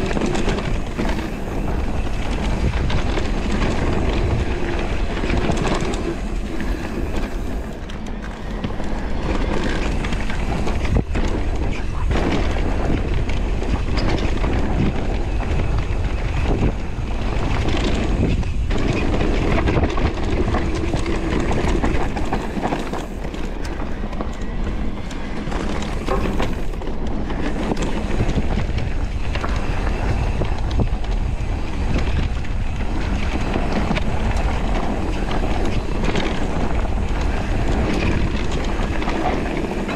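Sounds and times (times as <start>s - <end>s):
tyres rolling on dirt and leaves: 0.0s - 39.9s
wind on microphone: 0.0s - 39.9s.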